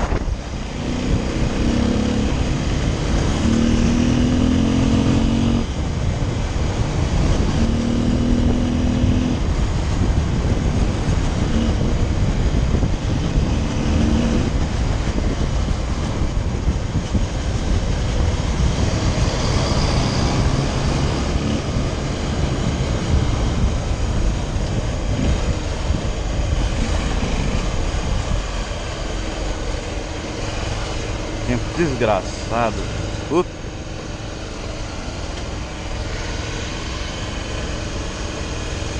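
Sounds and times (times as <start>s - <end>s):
motorcycle engine: 0.0s - 31.8s
wind on microphone: 0.0s - 31.8s.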